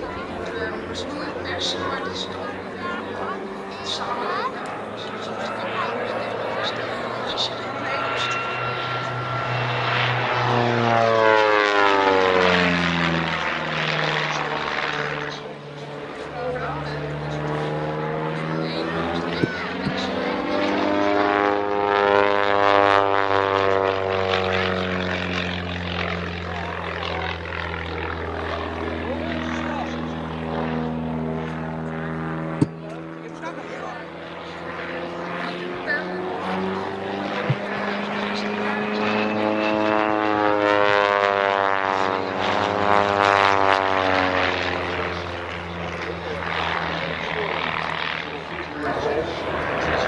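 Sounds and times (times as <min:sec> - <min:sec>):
propeller plane engine in flight: 0:00.0 - 0:50.0.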